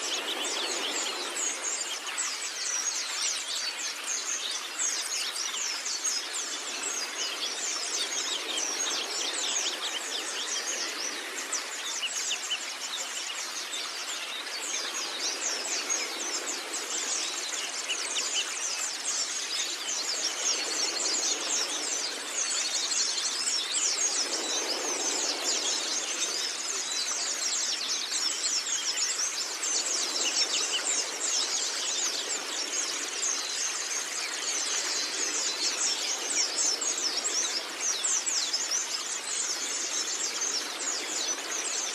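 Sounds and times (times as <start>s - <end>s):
bird twittering song: 0.0s - 41.9s.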